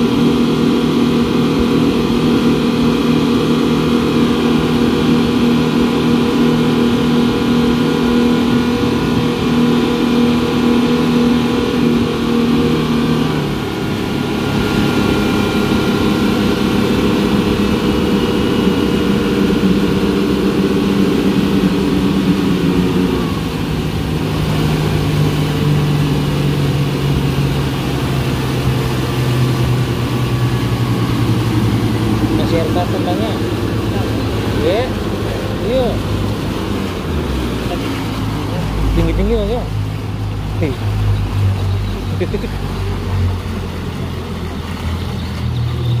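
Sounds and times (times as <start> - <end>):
outboard motor drone: 0.0 - 46.0.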